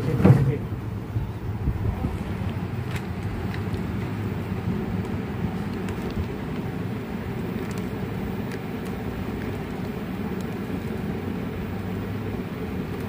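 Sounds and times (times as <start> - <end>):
low-pitched background hum: 0.0 - 13.0.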